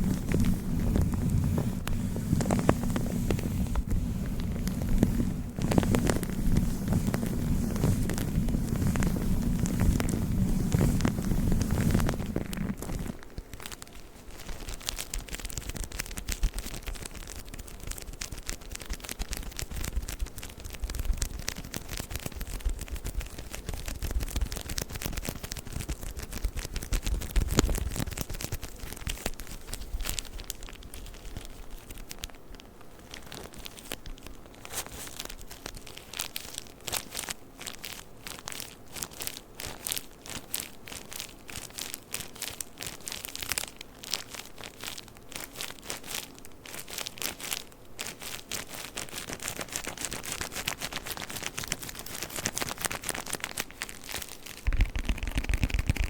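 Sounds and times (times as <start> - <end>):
tissue paper crinkling: 0.0 - 56.0.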